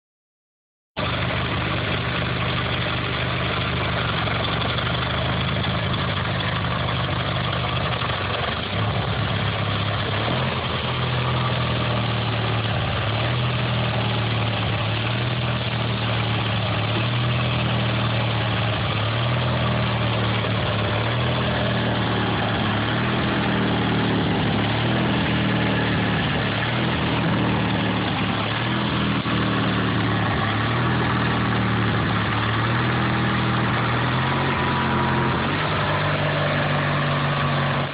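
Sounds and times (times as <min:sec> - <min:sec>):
engine idling: 0:01.0 - 0:37.9.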